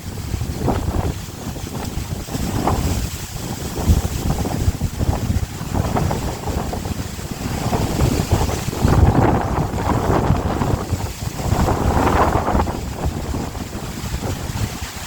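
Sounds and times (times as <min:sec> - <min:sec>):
bamboo leaves rustling: 0:00.0 - 0:15.0
wind buffeting microphone: 0:00.0 - 0:15.0.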